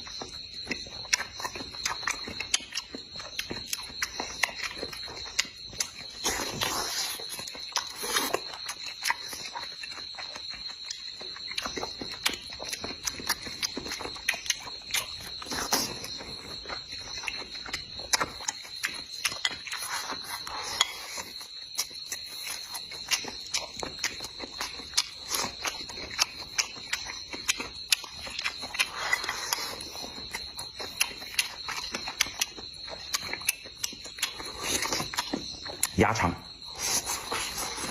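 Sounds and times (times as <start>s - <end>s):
chewing and mouth smacks: 0.0s - 37.9s.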